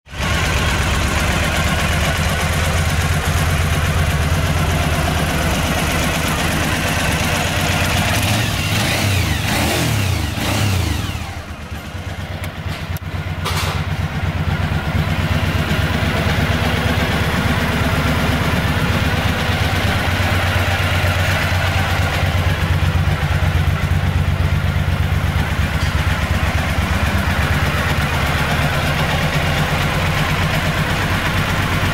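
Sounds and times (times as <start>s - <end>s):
motorcycle engine idling and revving: 0.0s - 31.9s.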